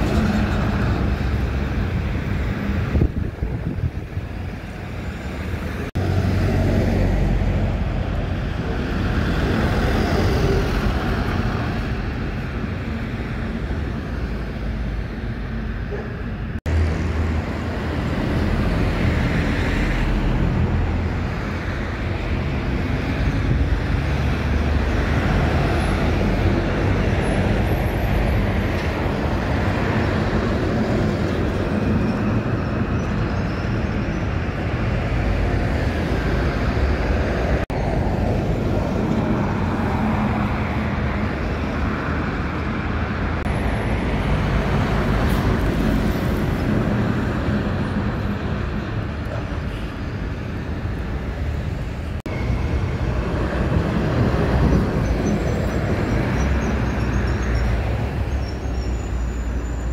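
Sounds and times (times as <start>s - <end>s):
traffic engine rumble: 0.0s - 59.9s.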